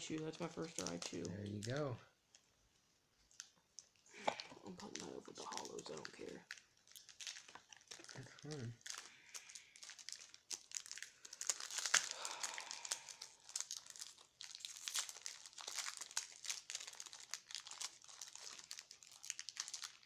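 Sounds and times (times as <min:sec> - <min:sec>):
foil wrapper crinkling: 0:00.0 - 0:02.5, 0:03.2 - 0:20.0.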